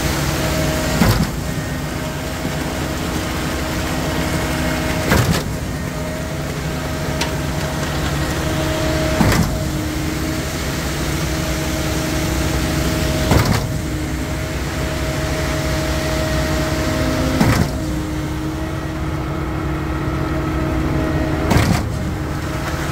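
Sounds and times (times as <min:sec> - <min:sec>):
heavy diesel engines running: 0:00.0 - 0:22.9.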